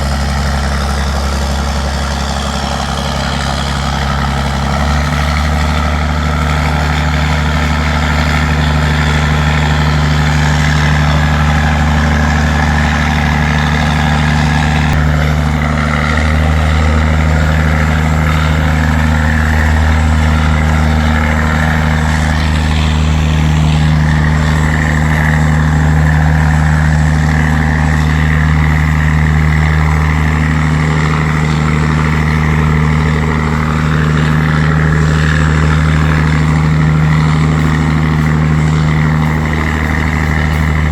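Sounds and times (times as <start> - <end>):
boat diesel engine humming: 0.0 - 40.9.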